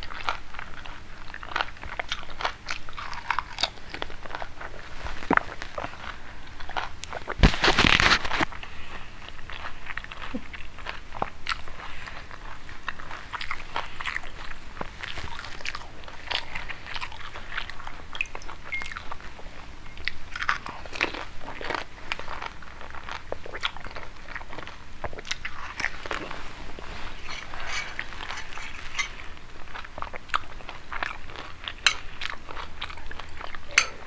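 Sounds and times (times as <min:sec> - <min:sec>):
crunching and chewing: 0:00.0 - 0:34.0.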